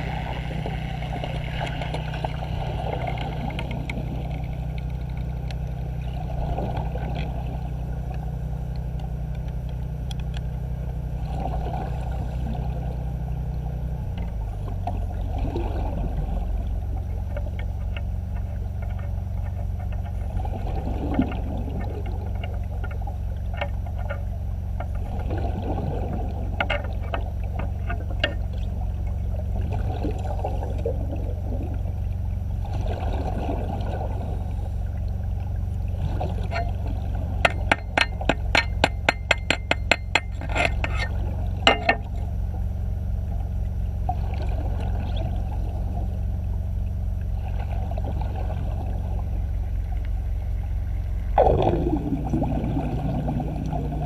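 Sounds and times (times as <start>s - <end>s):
watery gurgles: 0.0s - 8.0s, 11.1s - 42.4s, 44.0s - 46.2s, 47.2s - 54.0s
low mechanical hum: 0.0s - 54.0s.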